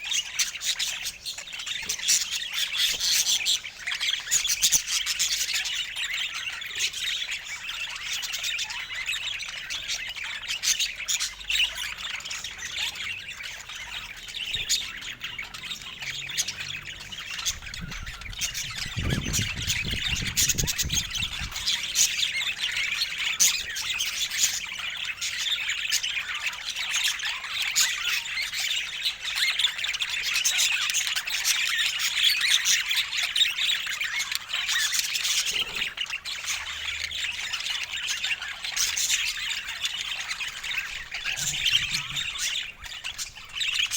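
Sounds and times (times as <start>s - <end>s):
budgerigars chattering and squawking: 0.0s - 43.9s.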